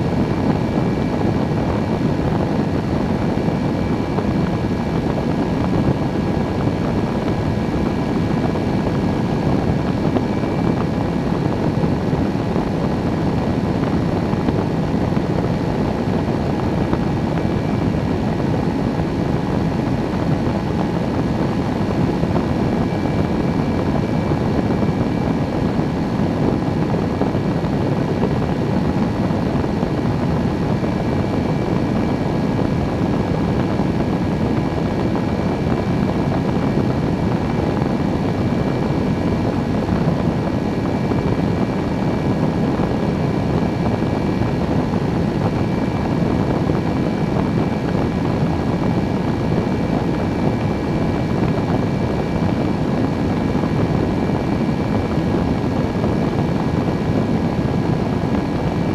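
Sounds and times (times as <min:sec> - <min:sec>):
microlight engine and propeller drone: 0:00.0 - 0:58.9.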